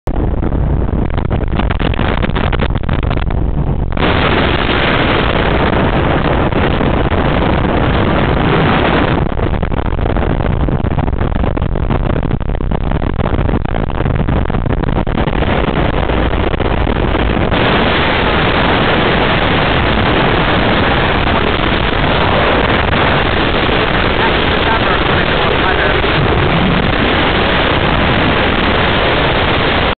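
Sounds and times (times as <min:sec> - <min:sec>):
powerboat engines and water noise: 0:00.1 - 0:29.9.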